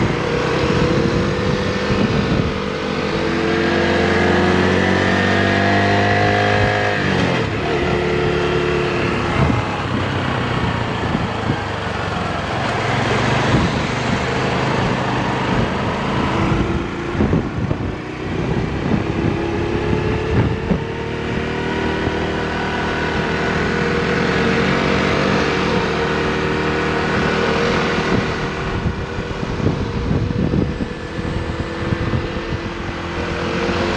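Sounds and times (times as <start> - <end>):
motorbike engine revving: 0.0 - 33.9
rushing wind noise: 0.0 - 33.9.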